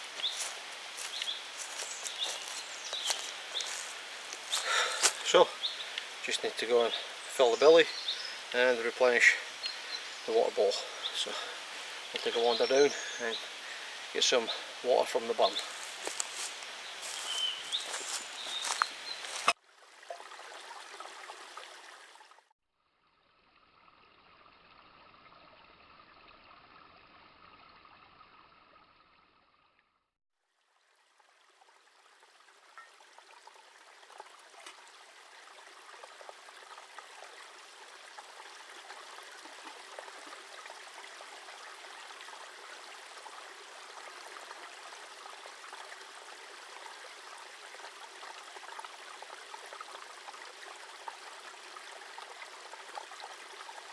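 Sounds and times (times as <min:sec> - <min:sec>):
stream trickling over stones: 0:00.0 - 0:29.7, 0:30.5 - 0:53.9.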